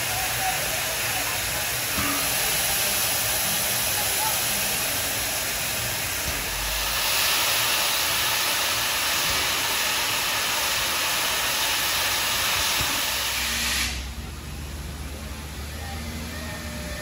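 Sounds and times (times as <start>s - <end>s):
steam venting with loud hiss: 0.0s - 17.0s.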